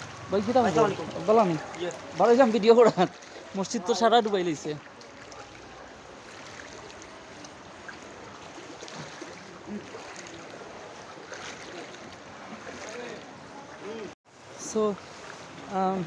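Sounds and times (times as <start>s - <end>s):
floodwater sloshing and running: 0.0s - 16.0s.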